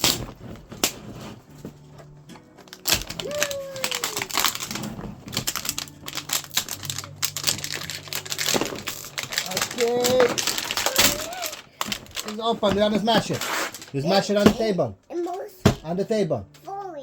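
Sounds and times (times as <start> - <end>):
plastic packaging clicks and crinkles: 0.0 - 14.7.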